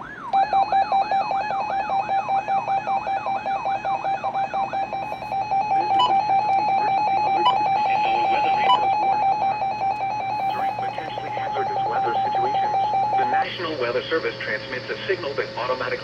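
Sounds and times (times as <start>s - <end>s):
warbling siren-like tone: 0.0s - 13.9s
rapid electronic beeping: 0.1s - 16.0s.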